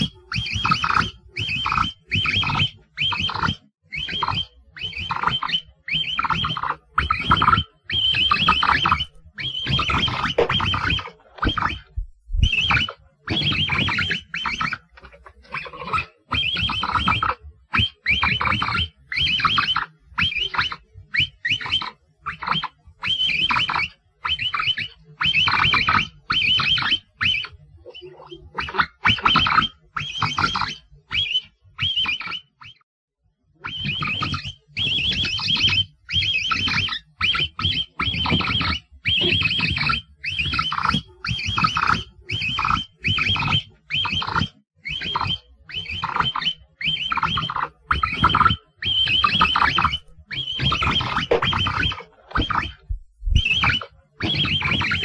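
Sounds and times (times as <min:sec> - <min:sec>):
capybara high-pitched calls: 0:00.0 - 0:32.8, 0:33.6 - 0:55.0.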